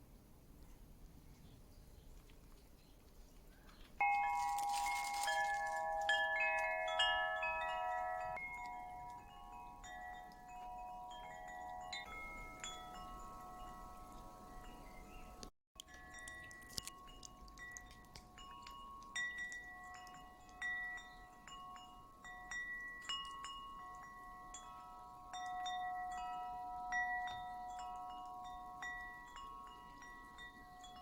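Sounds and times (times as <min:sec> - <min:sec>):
wind chime ringing: 0:04.0 - 0:31.0.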